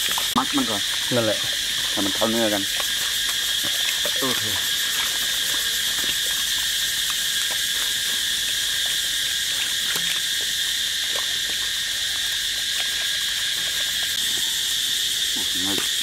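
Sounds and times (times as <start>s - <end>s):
hand mixing intestines squelching: 0.0s - 16.0s
insects buzzing: 0.0s - 16.0s.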